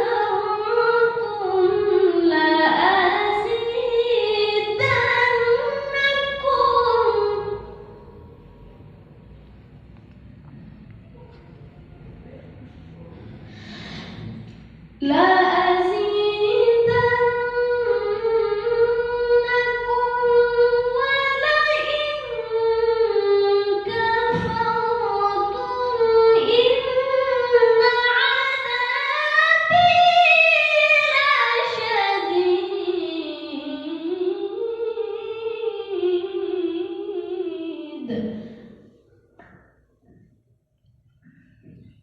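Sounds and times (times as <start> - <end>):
high voice chanting recitation: 0.0 - 39.5.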